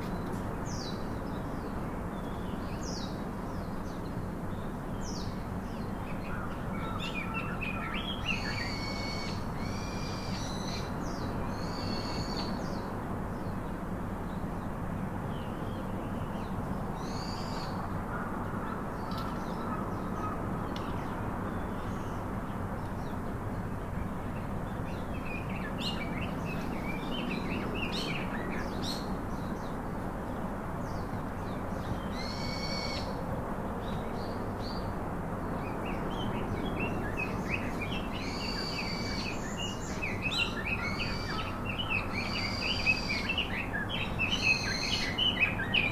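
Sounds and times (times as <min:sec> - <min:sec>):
steady background hum: 0:00.0 - 0:45.9.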